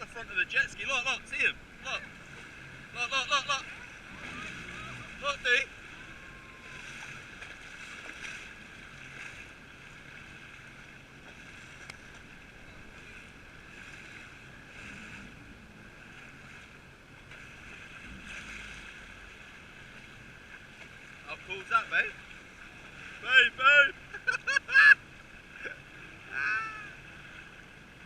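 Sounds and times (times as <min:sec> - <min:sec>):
jet ski engine running: 0:00.0 - 0:28.0
water lapping: 0:00.0 - 0:28.0.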